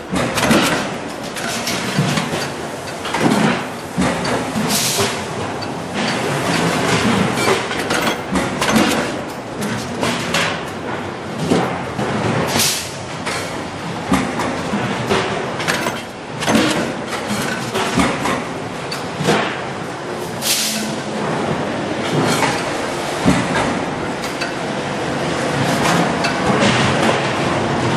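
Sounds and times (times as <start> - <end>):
factory machinery din: 0.0 - 27.9.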